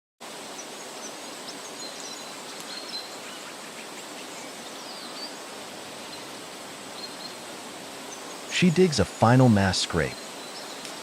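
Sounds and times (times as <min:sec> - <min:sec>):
outdoor background hiss: 0:00.2 - 0:11.0
small birds chirping: 0:00.5 - 0:11.0.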